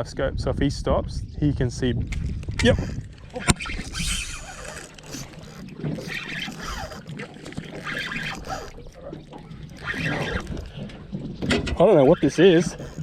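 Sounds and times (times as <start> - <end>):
wind on microphone: 0.0 - 7.0, 8.1 - 13.0
water lapping against boat hull: 2.0 - 13.0.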